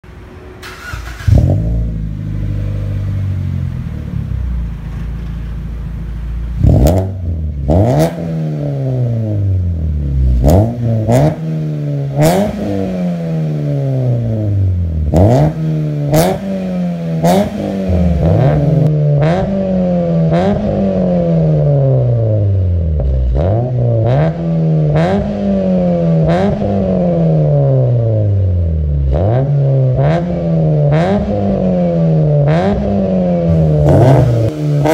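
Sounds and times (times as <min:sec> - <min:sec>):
car engine idling and revving: 0:00.0 - 0:34.9
exhaust crack: 0:00.6 - 0:34.9.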